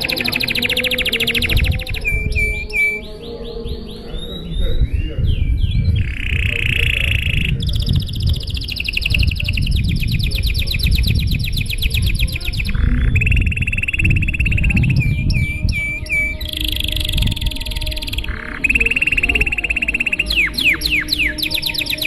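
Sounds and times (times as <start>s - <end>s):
low rumble: 0.0s - 19.9s
canary singing trills: 0.0s - 22.0s.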